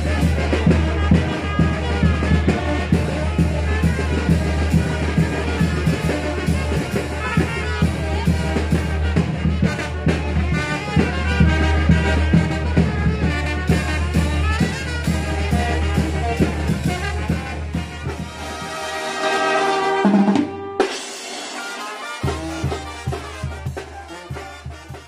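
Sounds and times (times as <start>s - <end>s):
brass band playing dance music: 0.0s - 25.0s
steady drum beat: 0.0s - 25.0s
trumpets: 0.0s - 25.0s.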